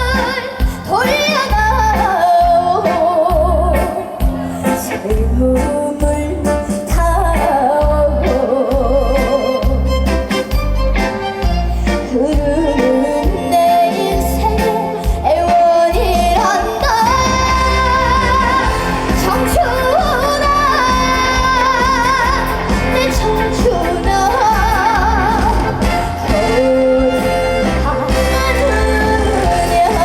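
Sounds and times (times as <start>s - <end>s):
woman singing with vibrato: 0.0s - 10.6s, 11.6s - 30.0s.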